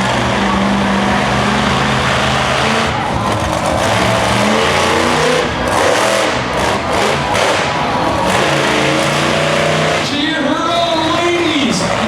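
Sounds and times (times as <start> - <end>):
truck engine revving loud: 0.0 - 12.0.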